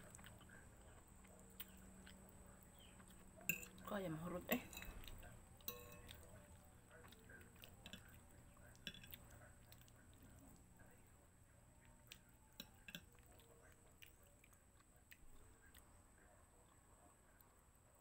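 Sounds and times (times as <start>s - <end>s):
faint chewing: 0.0s - 18.0s.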